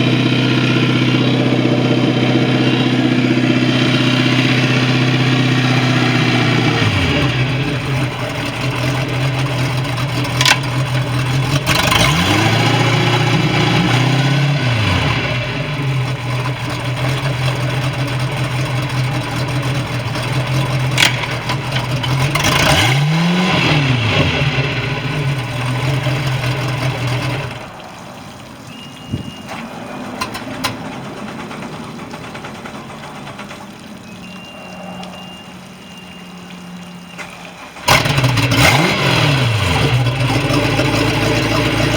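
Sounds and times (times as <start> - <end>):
boat engine idling and revving: 0.0 - 41.9.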